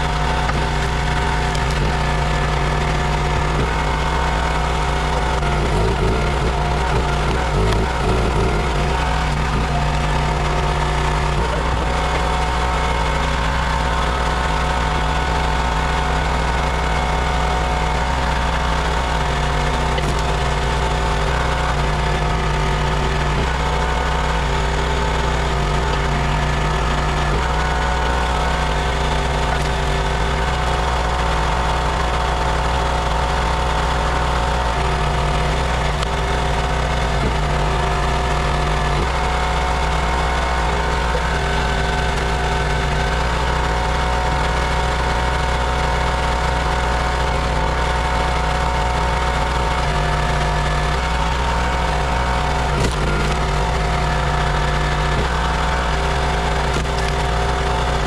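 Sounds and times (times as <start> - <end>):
gas engine running: 0.0 - 58.0
log splitter splitting wood: 0.0 - 58.0.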